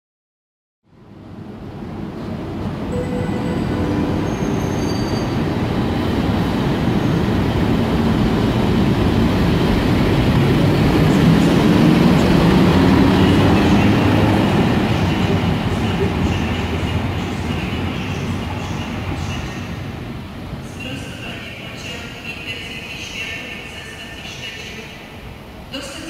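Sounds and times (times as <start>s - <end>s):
electric locomotive passing: 1.0s - 26.0s.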